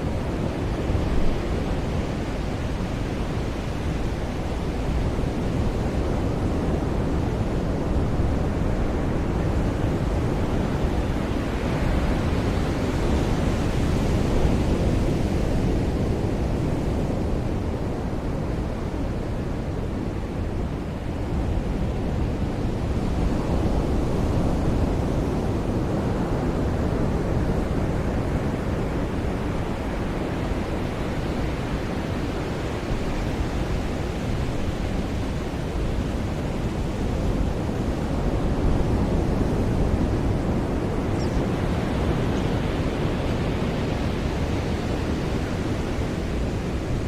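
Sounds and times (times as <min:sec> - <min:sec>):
ocean surf washing up beach: 0:00.0 - 0:47.0.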